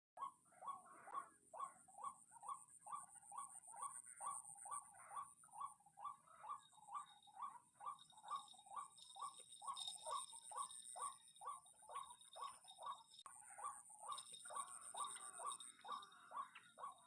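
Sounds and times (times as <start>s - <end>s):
bird croaking calls: 0.2s - 17.0s.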